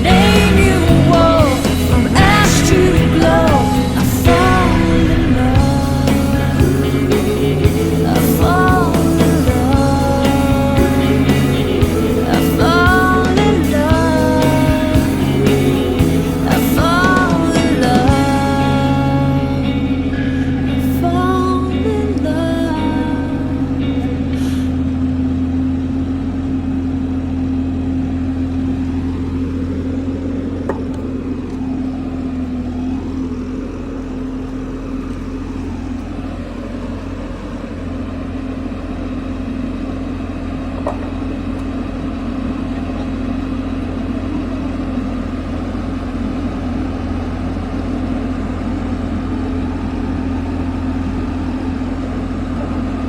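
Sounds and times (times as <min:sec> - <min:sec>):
engine droning steadily: 0:00.0 - 0:53.0.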